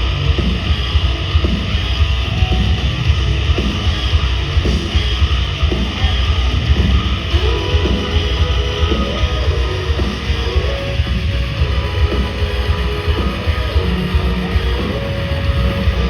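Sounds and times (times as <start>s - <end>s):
distorted electric guitars: 0.0s - 16.0s
rapid kick drum beat: 0.0s - 16.0s.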